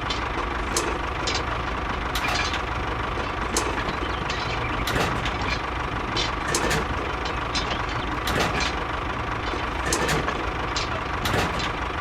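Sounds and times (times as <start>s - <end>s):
light clicks and rattles: 0.0s - 12.0s.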